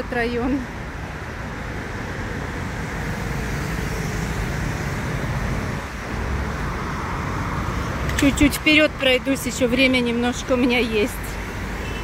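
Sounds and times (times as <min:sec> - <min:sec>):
cars and motorbikes passing: 0:00.0 - 0:12.0.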